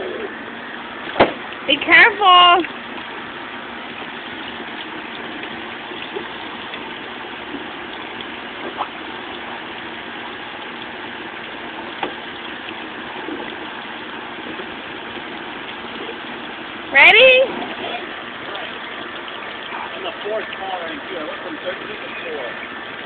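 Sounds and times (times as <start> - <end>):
water jets spraying: 0.0 - 23.0.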